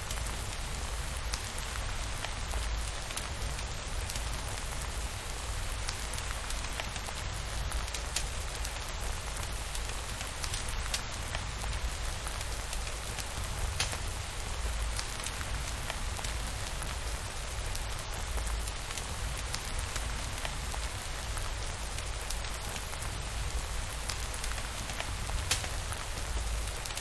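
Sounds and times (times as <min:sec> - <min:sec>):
steady rain hissing: 0:00.0 - 0:27.0.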